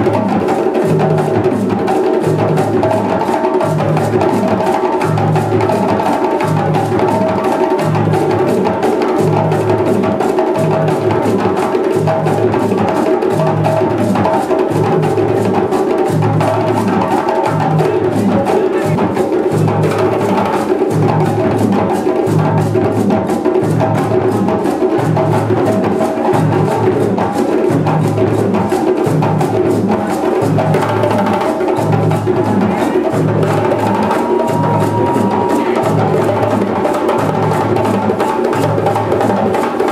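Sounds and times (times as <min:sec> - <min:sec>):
djembe hand drums: 0:00.0 - 0:39.9.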